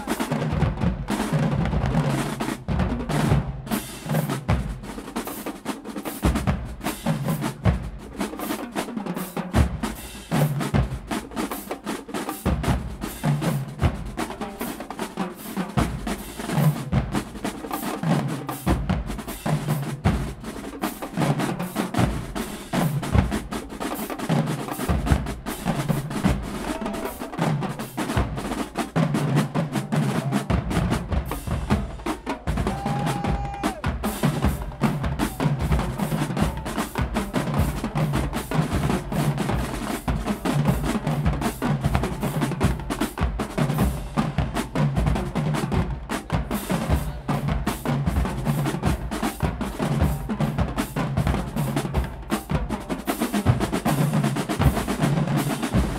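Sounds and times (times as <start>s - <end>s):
marching drumline playing: 0.0s - 55.9s
snare drum rolls: 0.0s - 55.9s.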